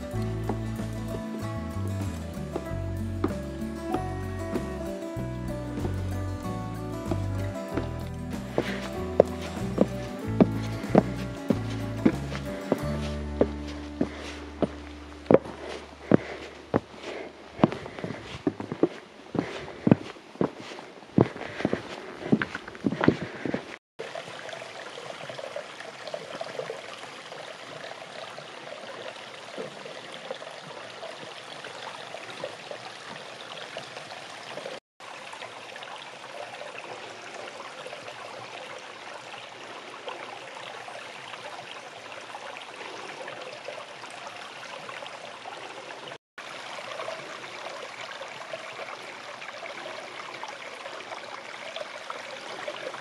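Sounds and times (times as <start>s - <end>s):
stream flowing water: 0.0s - 53.0s.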